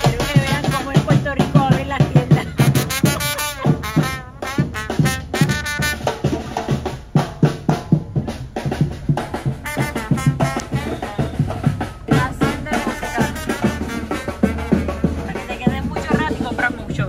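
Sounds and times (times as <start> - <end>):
upbeat music with drums: 0.0 - 17.0.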